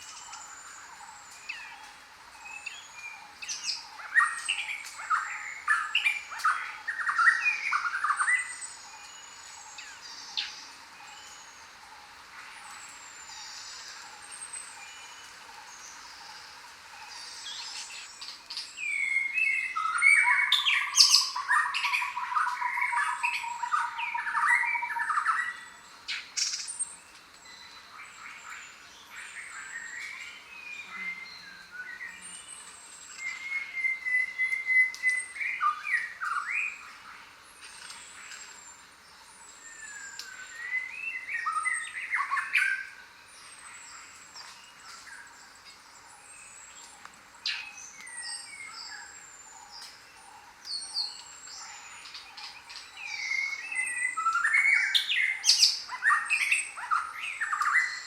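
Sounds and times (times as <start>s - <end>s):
jungle birds calling and singing: 0.0s - 58.0s.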